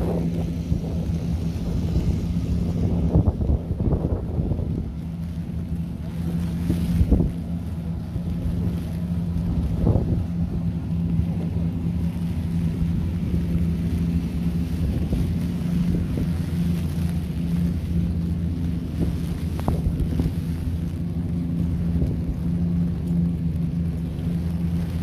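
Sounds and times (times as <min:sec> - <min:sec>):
engine droning: 0:00.0 - 0:25.0
wind buffeting microphone: 0:00.0 - 0:25.0.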